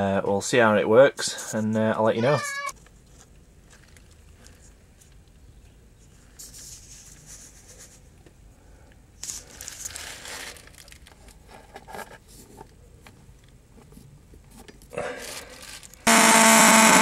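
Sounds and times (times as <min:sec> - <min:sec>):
rustling and crinkling handling: 0:01.3 - 0:08.4, 0:09.2 - 0:16.1.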